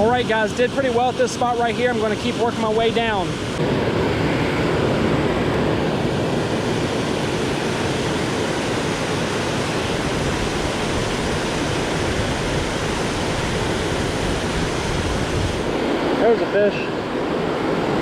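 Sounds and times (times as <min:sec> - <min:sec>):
river water rushing over dam: 0:00.0 - 0:18.0.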